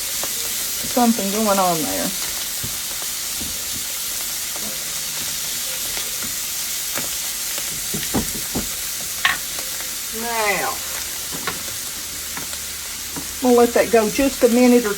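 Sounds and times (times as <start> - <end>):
vegetables sizzling in a skillet: 0.0 - 14.9.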